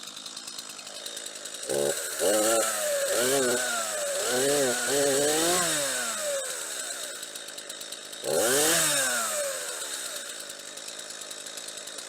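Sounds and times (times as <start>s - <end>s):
chainsaw idling and revving: 0.0s - 12.0s.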